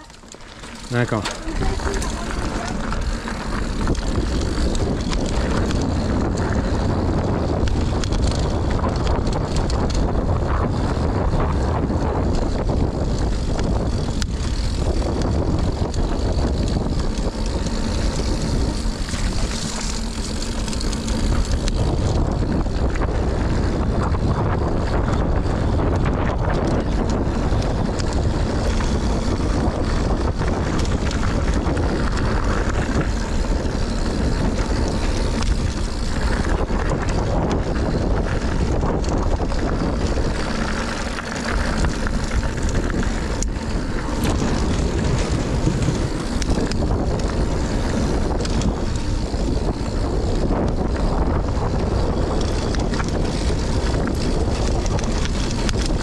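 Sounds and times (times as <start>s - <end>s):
bike clicks and rattles: 0.0s - 56.0s
bike tyres rumbling on dirt: 0.0s - 56.0s
wind on microphone: 0.0s - 56.0s.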